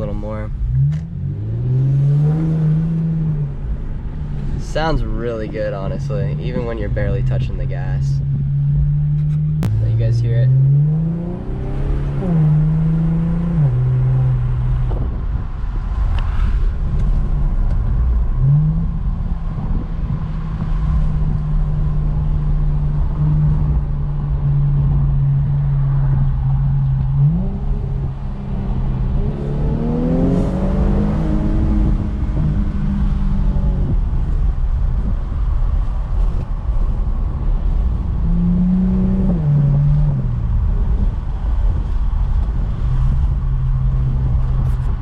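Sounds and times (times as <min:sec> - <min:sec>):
car engine revving: 0:00.0 - 0:16.2, 0:16.8 - 0:45.0
road and wind noise: 0:00.0 - 0:45.0.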